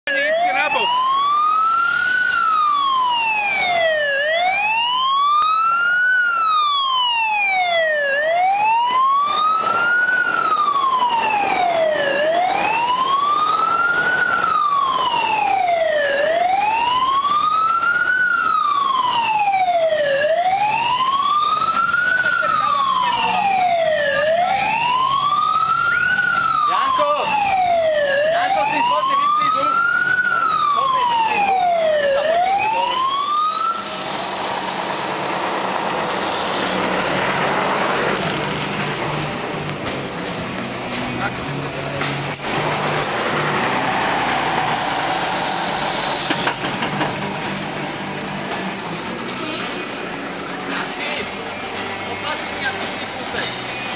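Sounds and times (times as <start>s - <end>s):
fire engine siren wailing: 0.1s - 53.9s.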